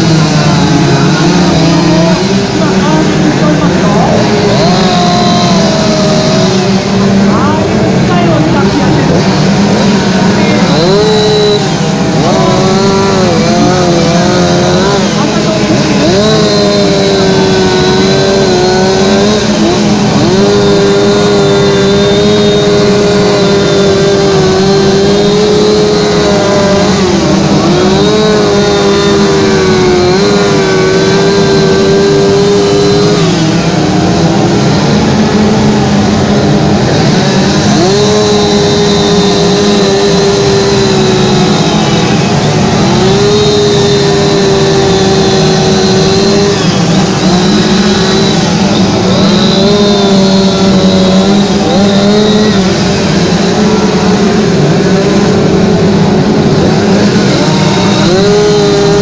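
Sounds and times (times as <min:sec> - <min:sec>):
chainsaws carving wood: 0:00.0 - 0:59.0.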